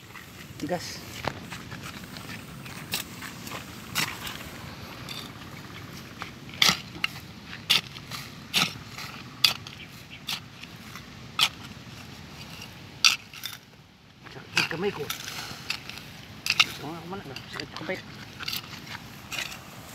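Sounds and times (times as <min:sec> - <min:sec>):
trowel scraping stony soil: 0:00.0 - 0:13.7, 0:14.3 - 0:19.9.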